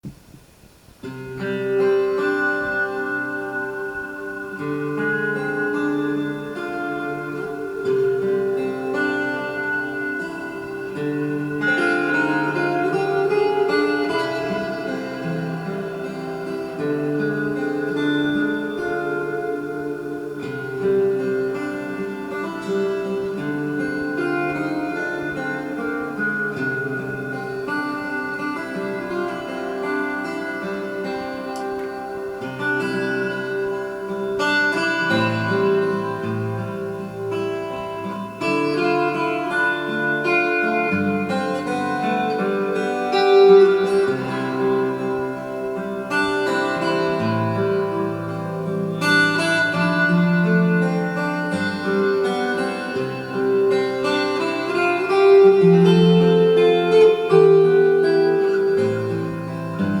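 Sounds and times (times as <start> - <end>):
slow plucked-string music: 0.0 - 60.0.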